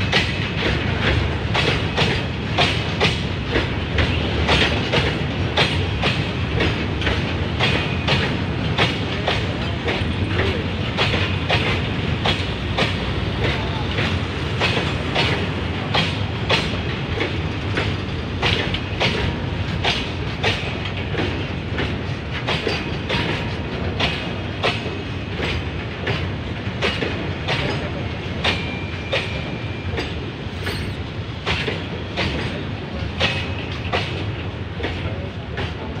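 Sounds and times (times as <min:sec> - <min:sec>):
continuous rumble of wagons: 0:00.0 - 0:36.0
train wheels clacking over rail joints: 0:00.0 - 0:36.0.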